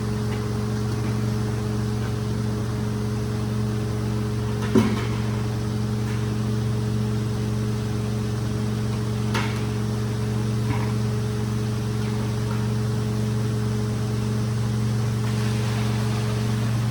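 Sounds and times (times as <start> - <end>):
cleaning machine motor hum: 0.0 - 16.9.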